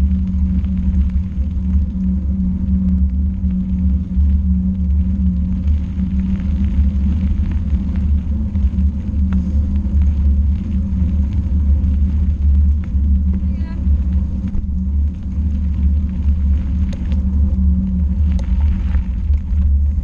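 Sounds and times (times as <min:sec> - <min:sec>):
rumble of travel on dirt path: 0:00.0 - 0:20.0
wind on camera: 0:00.0 - 0:20.0.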